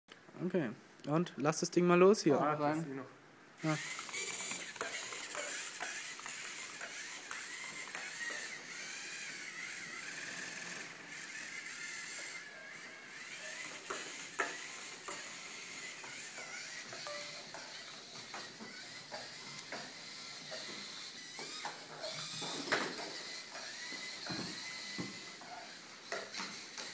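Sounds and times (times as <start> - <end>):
robot motors whining: 3.6 - 26.9.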